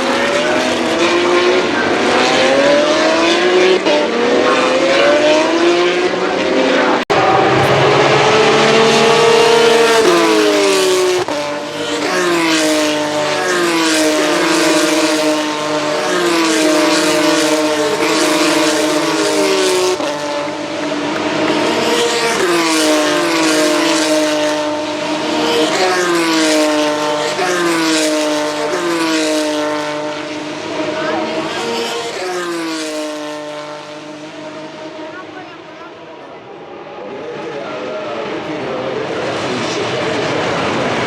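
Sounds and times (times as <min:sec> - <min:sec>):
racing car engines downshifting: 0:00.0 - 0:41.0.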